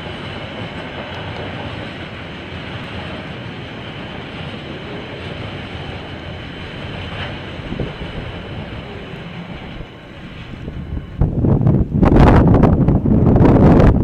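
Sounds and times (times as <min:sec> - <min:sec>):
train wheels rumbling on rails: 0:00.0 - 0:14.0
wind buffeting microphone: 0:00.0 - 0:14.0.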